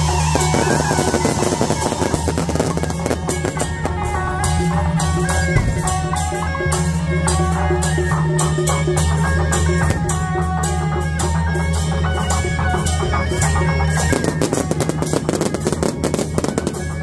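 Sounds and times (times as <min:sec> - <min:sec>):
festival music with drone: 0:00.0 - 0:17.0
rattling percussion: 0:00.0 - 0:17.0
regular drumbeat: 0:00.0 - 0:17.0.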